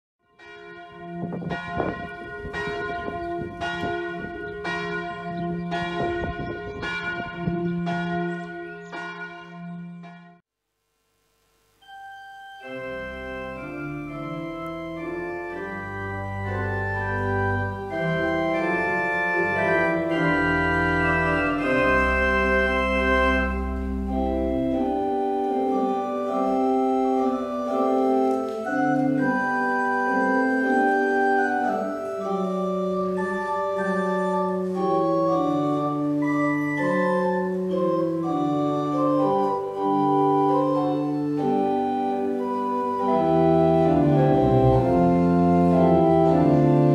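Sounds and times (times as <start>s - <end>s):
church organ chords: 0.4s - 10.4s, 11.7s - 46.9s
deep organ pedal bass notes: 1.2s - 10.3s, 12.6s - 46.9s.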